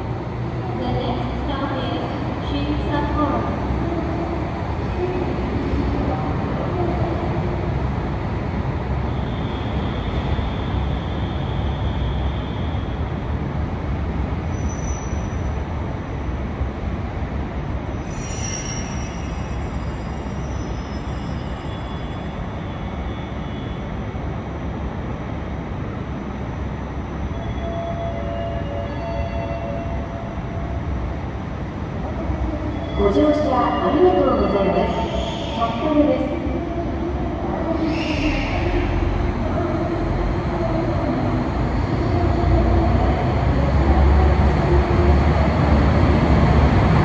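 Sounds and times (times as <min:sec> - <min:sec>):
idling trains low rumble: 0:00.0 - 0:47.0.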